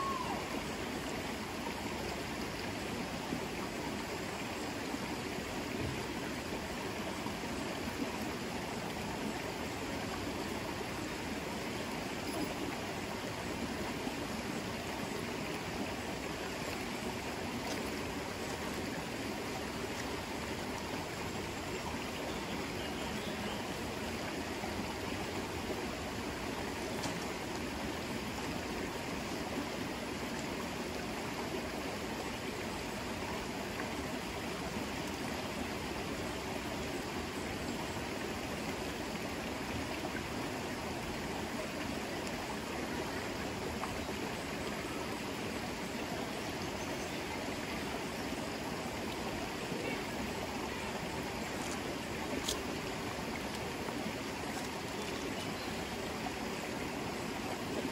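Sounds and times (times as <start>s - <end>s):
river water flowing: 0.0s - 57.9s.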